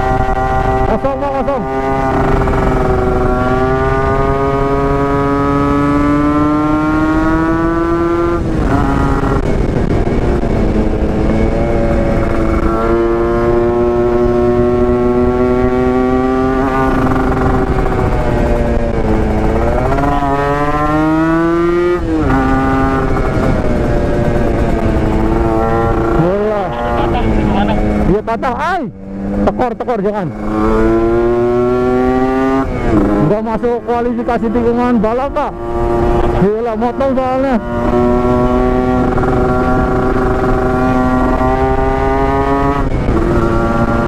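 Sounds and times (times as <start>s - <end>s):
two-stroke motorcycle accelerating: 0.0s - 44.0s.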